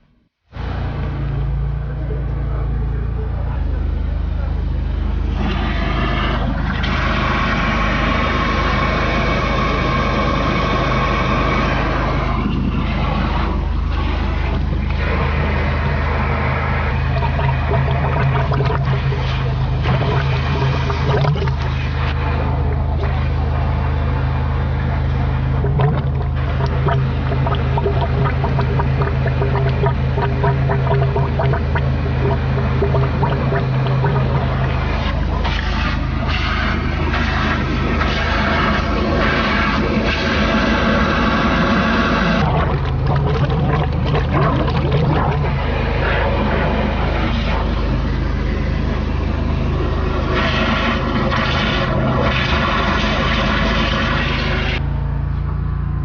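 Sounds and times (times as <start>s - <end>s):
dense tonal layer: 0.0s - 55.0s
drain jetter pump humming: 0.0s - 56.0s
water rushing: 4.9s - 54.8s.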